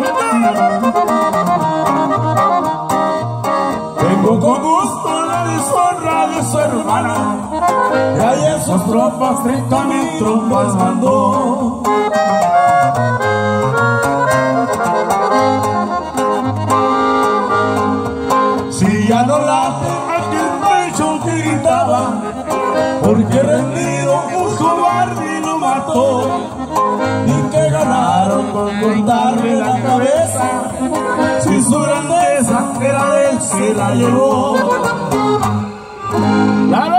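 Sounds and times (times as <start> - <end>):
button accordion: 0.0 - 36.9
strummed acoustic guitar: 0.0 - 36.9.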